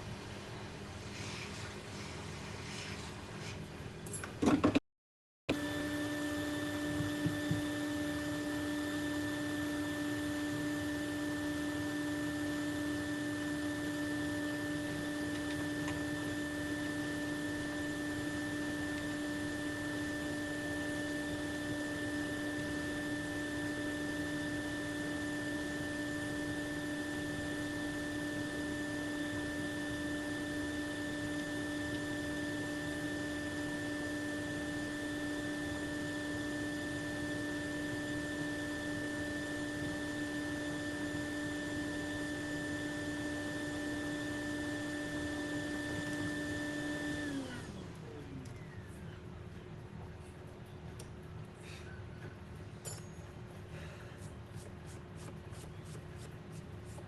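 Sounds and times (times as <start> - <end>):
electrical hum: 5.5 - 57.0.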